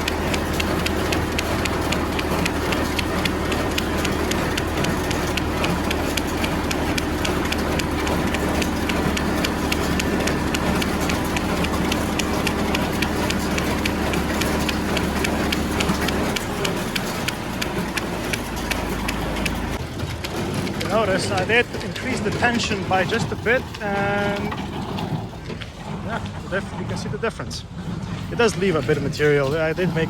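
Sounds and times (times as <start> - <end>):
baler clicking: 0.0 - 30.0
tractor engine running: 0.0 - 30.0.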